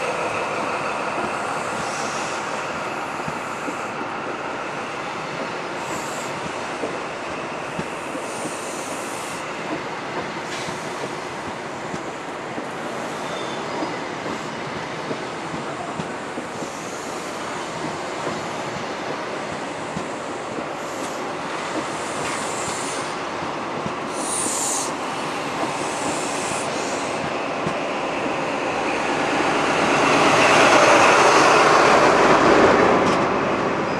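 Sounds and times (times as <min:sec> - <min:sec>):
diesel locomotive engine: 0:00.0 - 0:33.9
train wheels rumbling on rail: 0:00.0 - 0:33.9.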